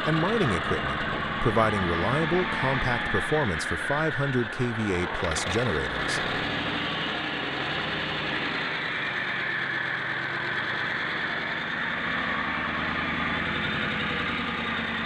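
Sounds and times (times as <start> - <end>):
diesel engine running: 0.0 - 15.0
engine hiss: 0.0 - 15.0.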